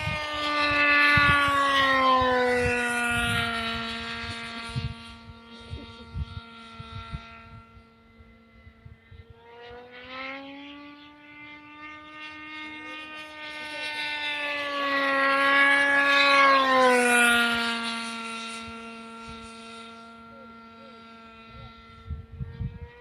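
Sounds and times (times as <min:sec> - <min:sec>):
model plane engine buzzing: 0:00.0 - 0:23.0.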